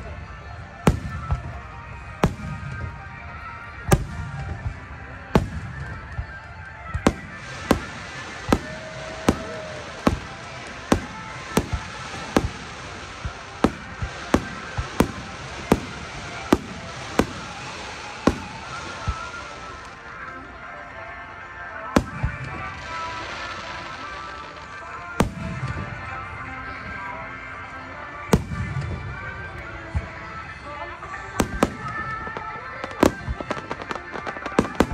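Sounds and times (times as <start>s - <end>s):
fireworks bursting: 0.0s - 34.9s
music: 0.0s - 34.9s.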